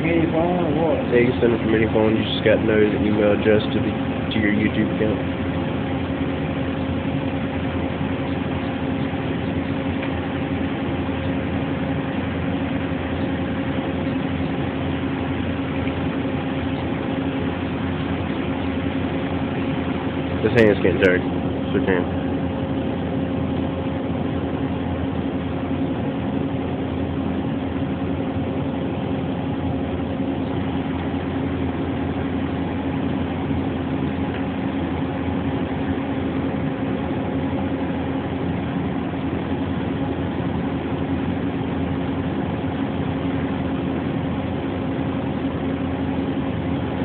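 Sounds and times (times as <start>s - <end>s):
machinery hum: 0.0s - 47.0s.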